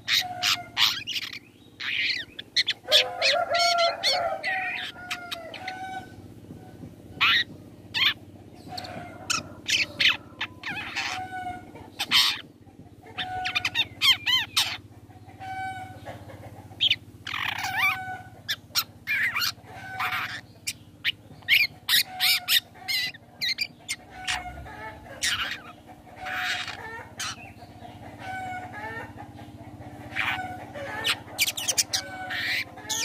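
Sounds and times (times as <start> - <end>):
bird singing harsh calls: 0.0 - 33.0.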